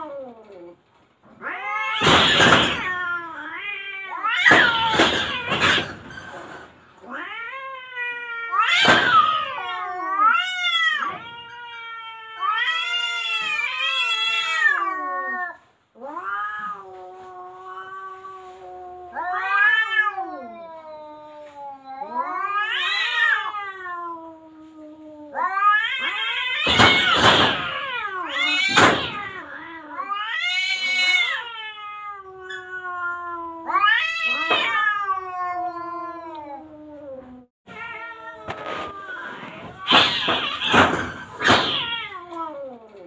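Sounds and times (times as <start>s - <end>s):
cats yowling: 0.0s - 43.0s.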